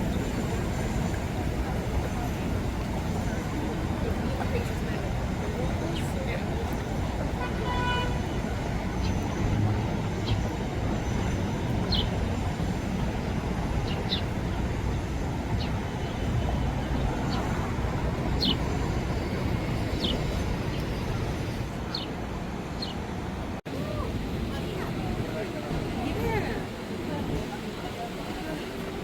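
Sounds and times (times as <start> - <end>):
city traffic rumble: 0.0 - 29.0.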